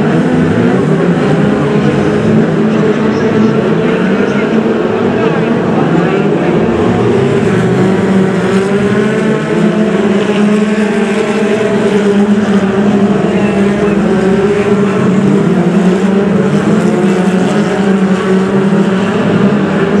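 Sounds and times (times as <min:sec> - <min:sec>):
stock car engines racing: 0:00.0 - 0:20.0.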